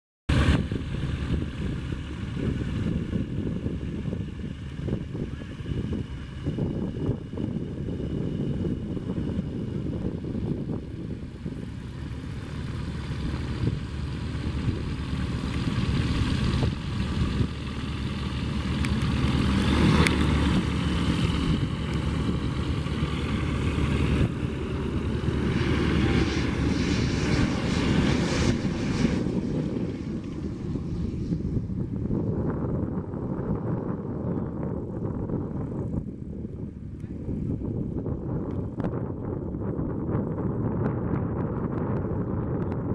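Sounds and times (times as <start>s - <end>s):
turboprop aircraft engine: 0.3s - 42.9s.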